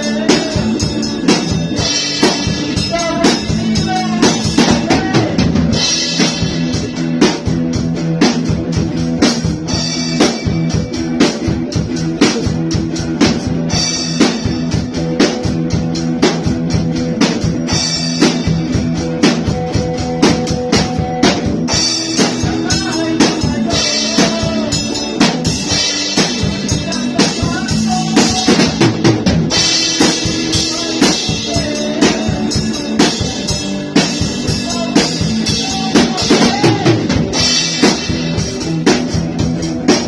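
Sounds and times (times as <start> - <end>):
drum kit beat: 0.0 - 40.0
guitar and bass chords: 0.0 - 40.0.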